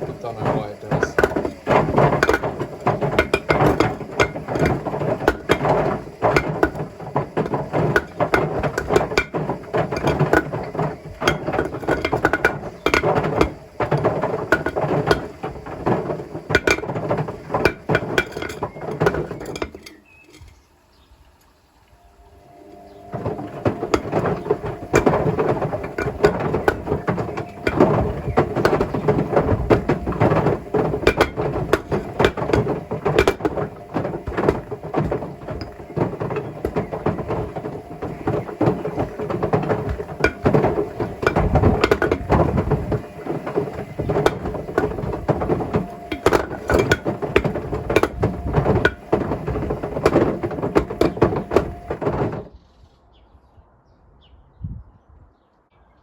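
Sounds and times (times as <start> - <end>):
bricks clattering in washing machine drum: 0.0 - 20.6, 23.0 - 52.5
washing machine hum: 0.0 - 52.5.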